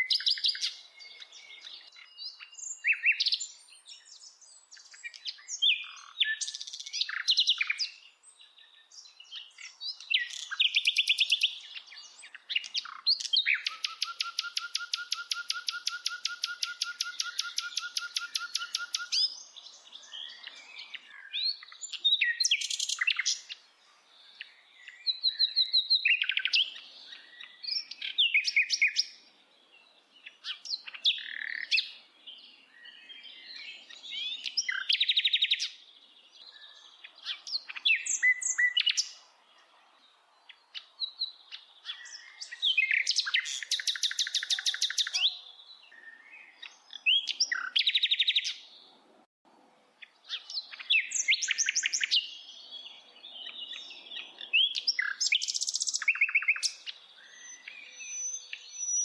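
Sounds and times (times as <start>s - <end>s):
bird singing chirps and trills: 0.0s - 49.0s, 50.0s - 59.0s.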